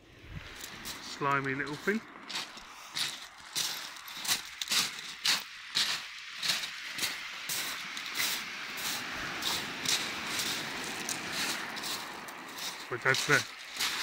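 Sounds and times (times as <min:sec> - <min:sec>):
steady hiss: 0:00.0 - 0:14.0
footsteps crunching on pebbles: 0:00.4 - 0:14.0.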